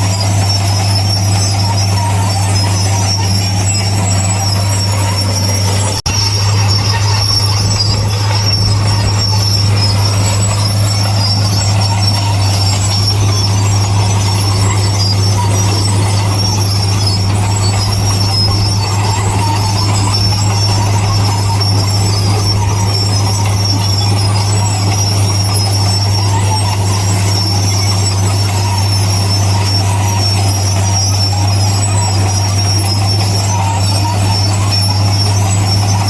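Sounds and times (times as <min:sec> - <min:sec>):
diesel machinery drone: 0:00.0 - 0:36.0
high metallic squeal: 0:00.0 - 0:36.0.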